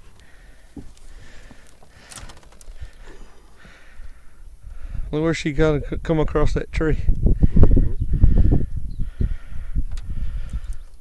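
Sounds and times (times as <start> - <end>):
wind rumbling on microphone: 1.2 - 11.0.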